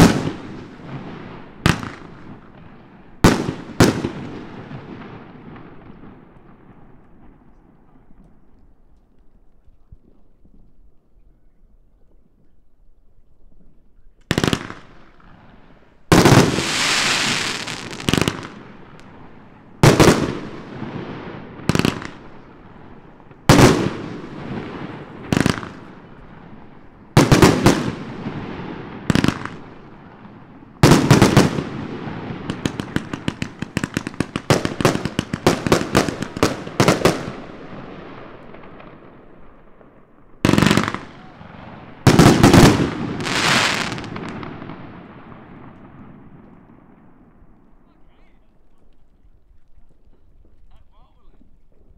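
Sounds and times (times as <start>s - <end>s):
firework crackling pops: 0.0s - 9.2s, 14.2s - 47.8s.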